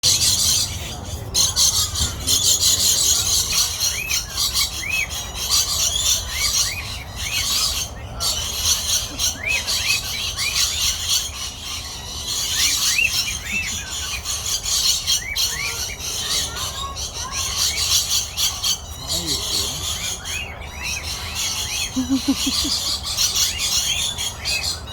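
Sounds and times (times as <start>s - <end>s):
flock of birds chattering: 0.0s - 24.9s.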